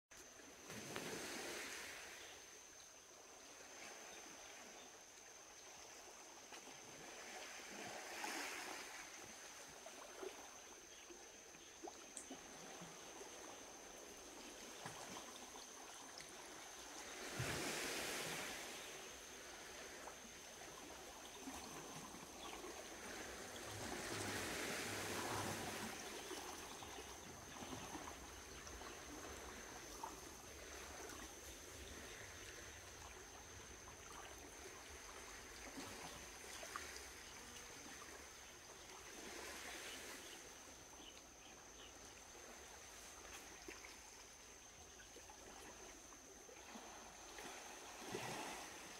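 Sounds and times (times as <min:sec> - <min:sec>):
faint water noise: 0:00.1 - 0:48.9.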